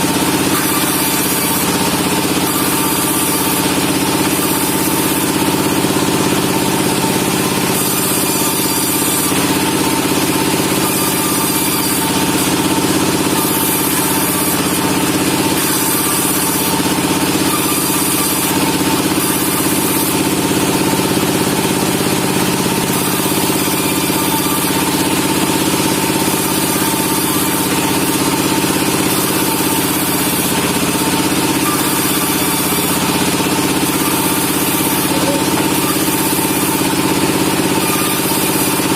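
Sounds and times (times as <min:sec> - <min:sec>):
sawmill machinery hum: 0:00.0 - 0:38.9.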